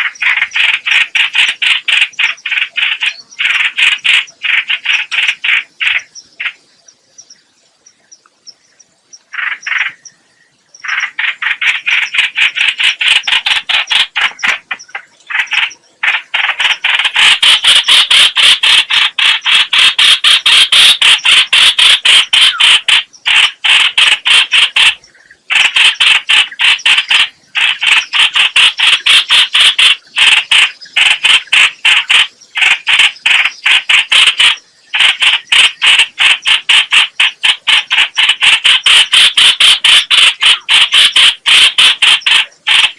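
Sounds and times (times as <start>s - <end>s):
bird calling sharp repeated notes: 0.0s - 8.2s, 9.1s - 10.2s, 10.8s - 42.9s.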